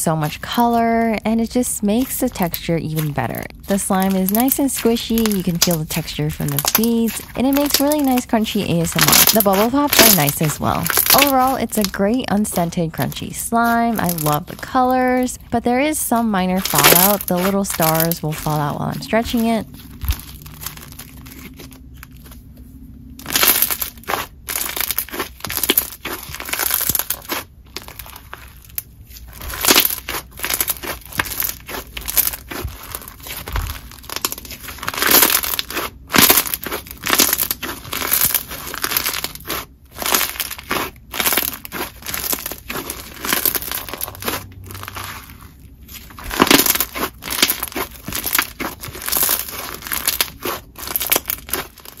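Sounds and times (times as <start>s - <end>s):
hands squishing crunchy slime: 0.0s - 22.5s, 23.2s - 52.0s.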